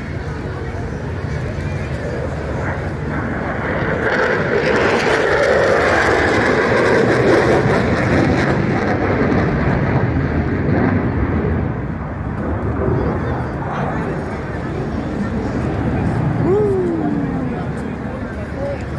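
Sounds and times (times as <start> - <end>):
jet aircraft passing: 0.0 - 18.9.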